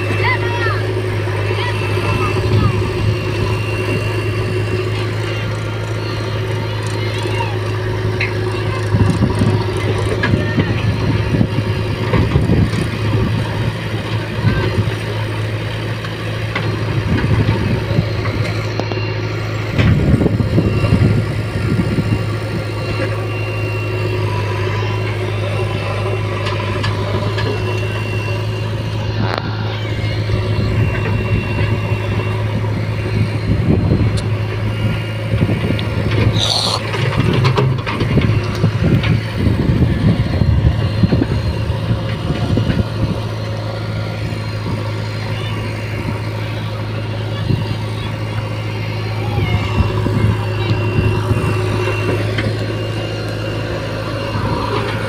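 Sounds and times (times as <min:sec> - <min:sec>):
diesel engines droning: 0:00.0 - 0:55.0
engine revving in surges: 0:00.0 - 0:55.0.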